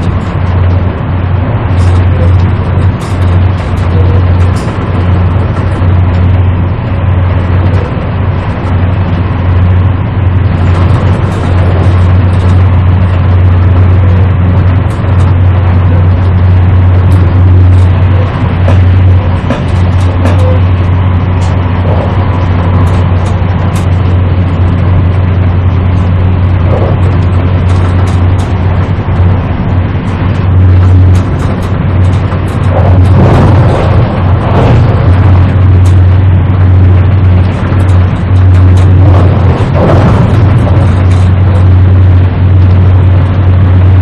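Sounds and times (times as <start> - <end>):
low hum: 0.0 - 44.0
train rumbling from inside carriage: 0.0 - 44.0.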